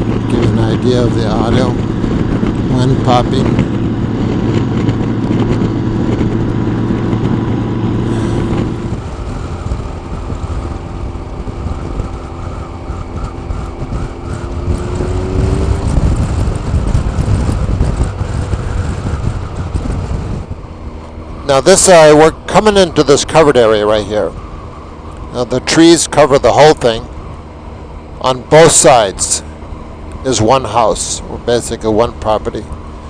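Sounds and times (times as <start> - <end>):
motorcycle engine hum: 0.0 - 33.0
wind popping over microphone: 0.0 - 33.0.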